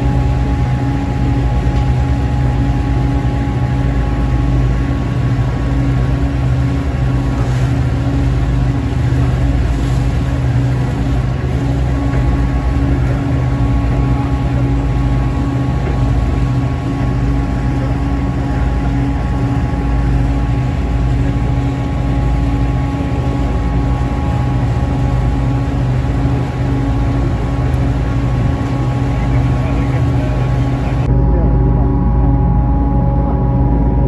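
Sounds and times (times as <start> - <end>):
boat engine droning: 0.0 - 34.0
water rushing along hull: 0.0 - 34.0.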